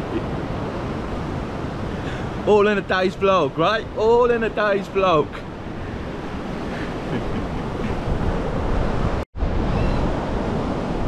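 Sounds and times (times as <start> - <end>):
surf breaking on beach: 0.0 - 11.0
wind buffeting microphone: 0.0 - 11.0.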